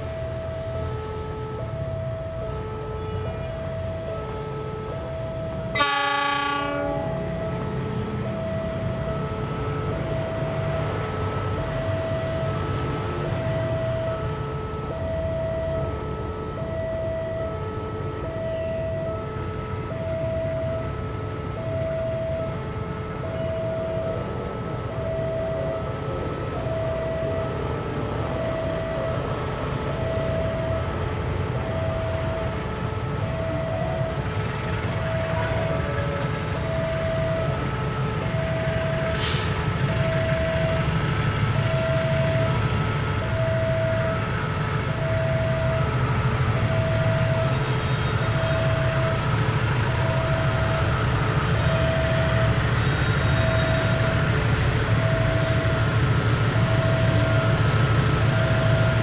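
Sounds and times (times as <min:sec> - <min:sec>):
beeping warning tone: 0:00.0 - 0:09.3, 0:09.9 - 0:19.2, 0:19.9 - 0:20.9, 0:21.5 - 0:22.6, 0:23.2 - 0:59.0
locomotive engine rumbling: 0:00.0 - 0:59.0.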